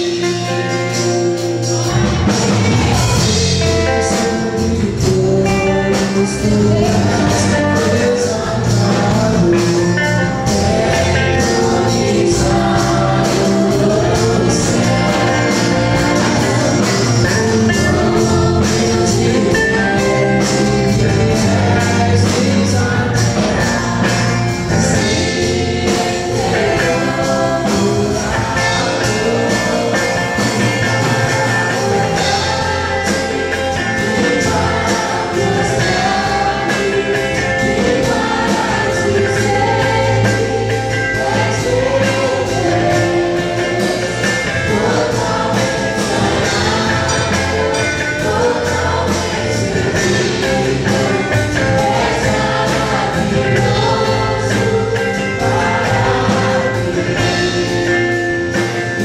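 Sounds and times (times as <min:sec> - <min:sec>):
drums keeping a steady beat: 0:00.0 - 0:59.0
electric guitar: 0:00.0 - 0:59.0
men singing backing vocals: 0:00.0 - 0:59.0
woman singing worship song: 0:01.9 - 0:57.9.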